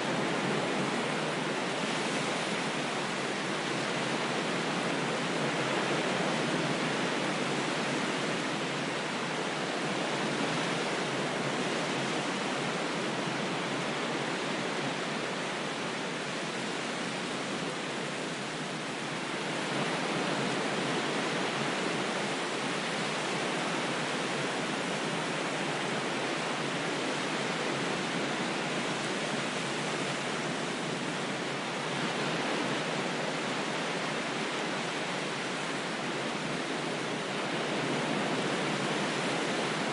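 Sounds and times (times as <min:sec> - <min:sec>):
ocean waves surf hissing: 0:00.0 - 0:39.9.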